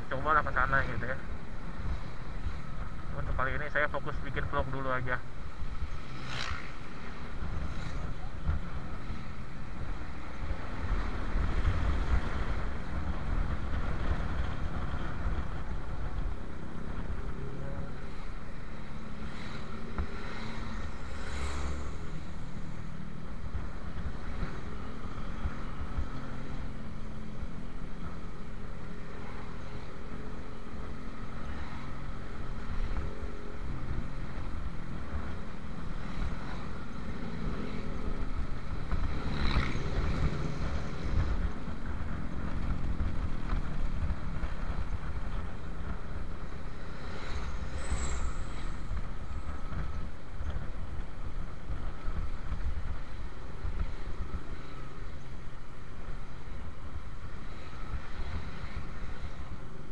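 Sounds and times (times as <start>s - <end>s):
passing traffic: 0.0s - 59.9s.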